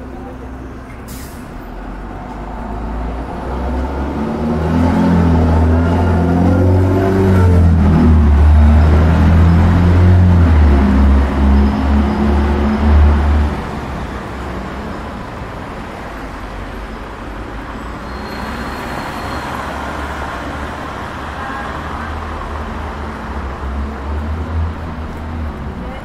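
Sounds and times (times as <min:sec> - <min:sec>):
road traffic: 0:00.0 - 0:26.0
vehicles passing with low rumble: 0:00.0 - 0:26.0.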